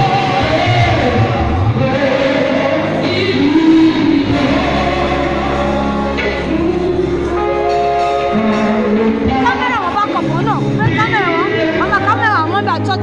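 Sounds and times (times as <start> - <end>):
band playing: 0.0 - 13.0
gospel singing: 0.0 - 13.0.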